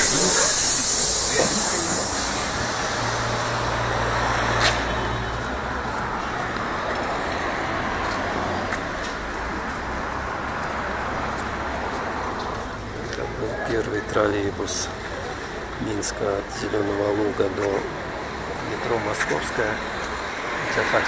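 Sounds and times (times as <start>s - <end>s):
passing vehicles rushing: 0.0s - 21.0s.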